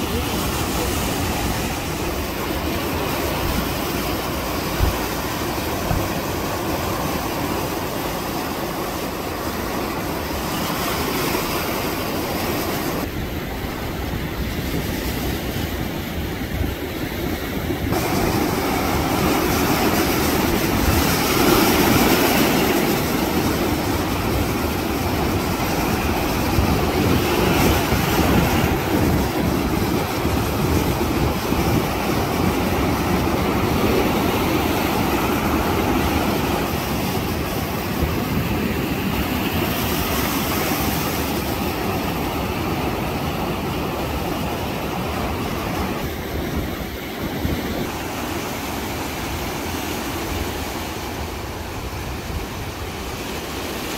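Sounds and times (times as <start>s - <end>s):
ocean surf breaking: 0.0s - 53.9s.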